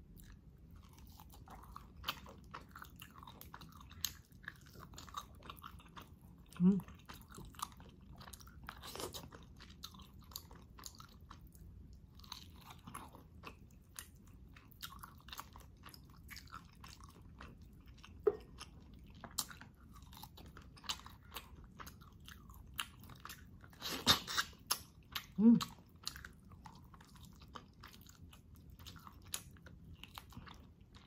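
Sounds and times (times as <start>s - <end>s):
chewing meat off bones: 0.0s - 31.0s.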